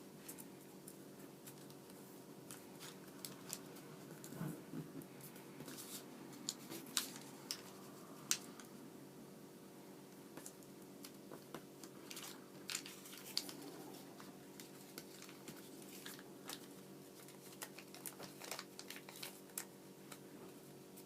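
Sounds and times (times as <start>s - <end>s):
steady low hum: 0.0s - 21.0s
paper crackling and rustling: 0.2s - 4.6s, 5.6s - 8.7s, 10.4s - 21.0s.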